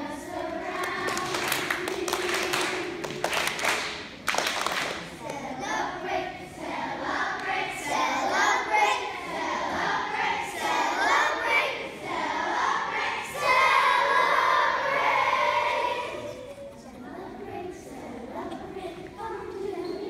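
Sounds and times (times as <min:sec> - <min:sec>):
children singing together: 0:00.0 - 0:04.0, 0:05.1 - 0:20.0.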